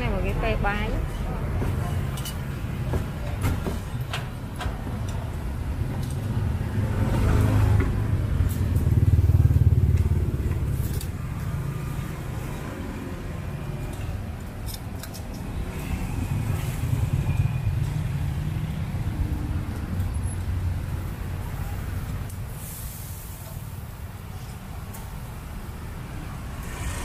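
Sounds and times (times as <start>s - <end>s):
motorbikes and cars passing: 0.0s - 22.7s, 23.6s - 27.0s.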